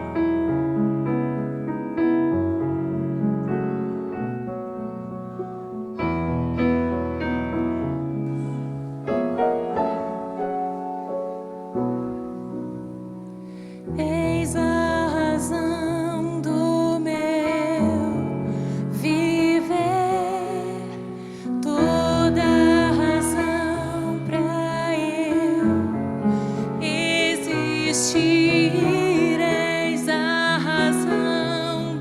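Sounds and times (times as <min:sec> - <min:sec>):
piano chords ringing: 0:00.0 - 0:32.0.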